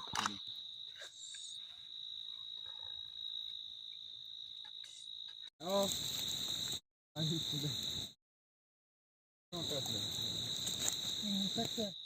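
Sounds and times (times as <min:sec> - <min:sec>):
crickets trilling: 0:00.0 - 0:08.2, 0:09.6 - 0:12.0.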